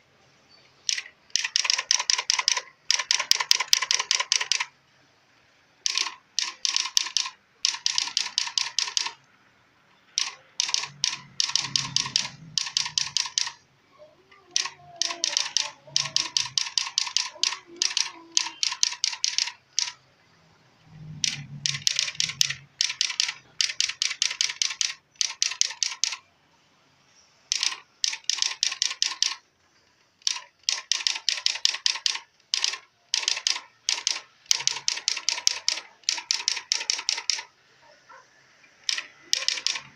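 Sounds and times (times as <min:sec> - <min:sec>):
electronic typewriter striking characters: 0:00.8 - 0:04.7, 0:05.8 - 0:09.2, 0:10.1 - 0:13.6, 0:14.5 - 0:20.0, 0:21.0 - 0:26.2, 0:27.5 - 0:29.4, 0:30.2 - 0:37.5, 0:38.8 - 0:39.9.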